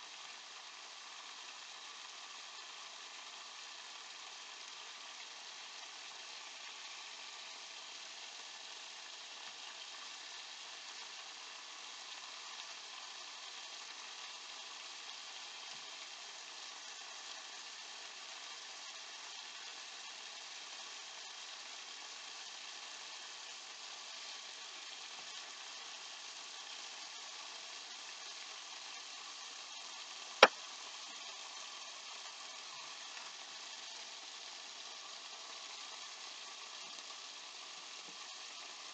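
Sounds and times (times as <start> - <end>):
fish frying in oil: 0.0 - 38.9.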